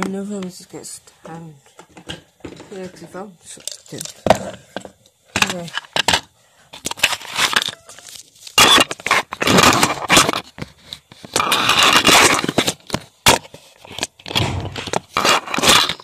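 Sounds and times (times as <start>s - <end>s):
scraping and rustling handling: 1.3s - 16.0s.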